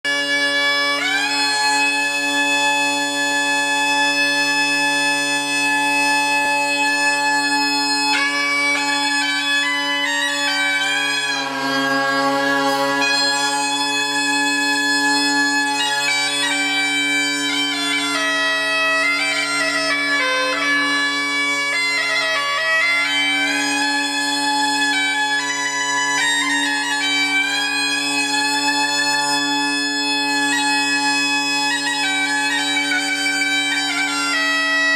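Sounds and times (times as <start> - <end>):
bagpipes playing: 0.0 - 34.9.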